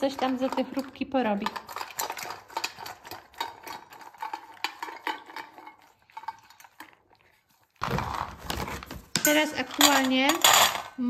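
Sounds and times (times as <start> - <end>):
dog crunching kibble: 0.0 - 9.2.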